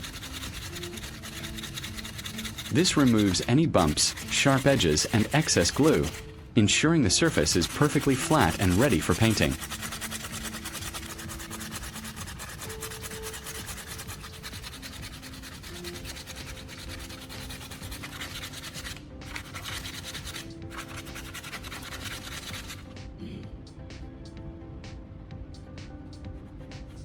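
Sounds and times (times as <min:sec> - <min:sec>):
sandpaper rubbing on plastic: 0:00.0 - 0:06.4, 0:07.2 - 0:22.9
soft background music: 0:00.0 - 0:27.0.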